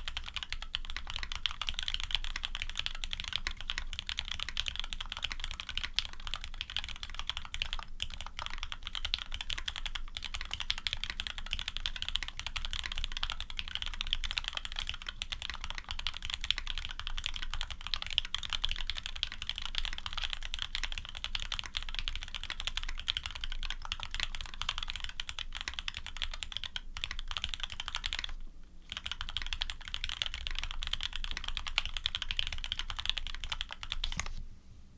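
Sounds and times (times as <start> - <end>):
mechanical keyboard typing: 0.0 - 34.4.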